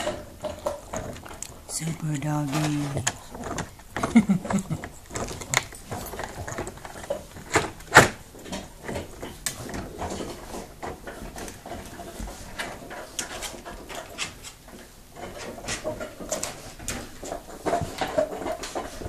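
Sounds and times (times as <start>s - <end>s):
dog gnawing on a bone: 0.0s - 19.0s.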